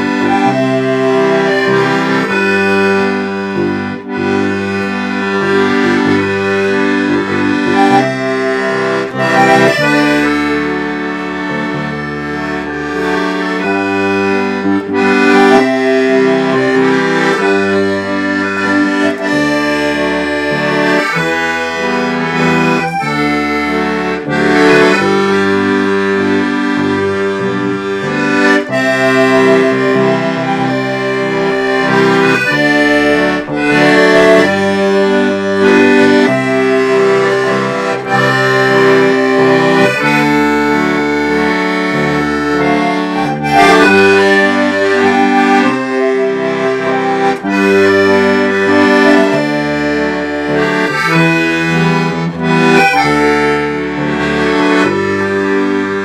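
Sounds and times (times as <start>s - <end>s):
accordion playing waltz tune: 0.0s - 56.0s
bass line: 0.0s - 56.0s.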